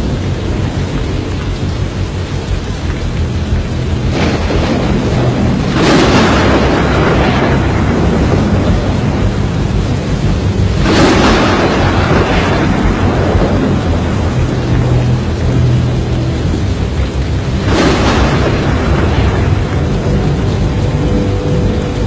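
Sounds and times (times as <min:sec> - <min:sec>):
steady rain: 0:00.0 - 0:22.0
thunder crashes: 0:00.0 - 0:22.0
wind: 0:00.0 - 0:22.0.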